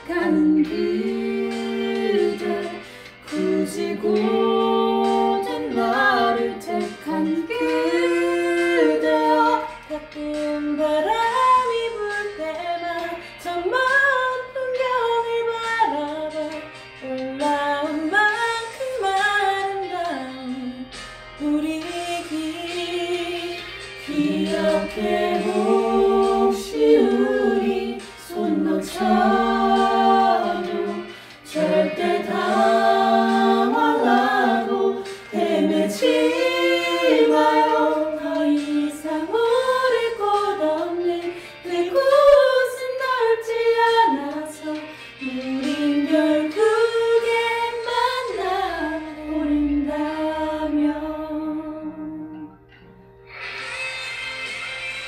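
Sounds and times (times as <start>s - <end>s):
a cappella group singing: 0.0s - 52.6s.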